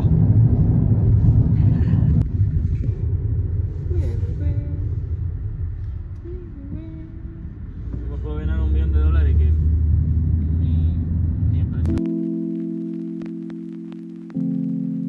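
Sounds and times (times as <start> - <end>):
car cabin road rumble: 0.0 - 12.4.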